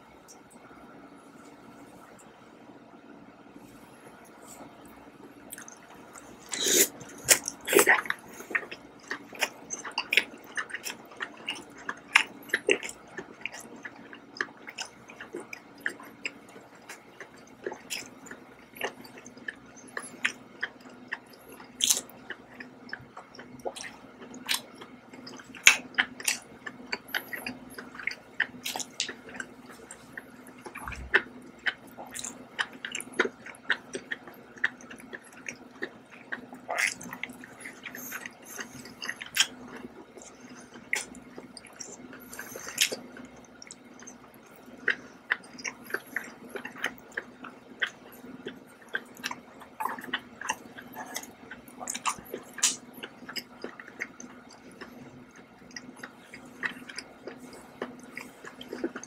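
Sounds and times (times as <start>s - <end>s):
wet chewing and lip smacking: 4.6s - 59.0s.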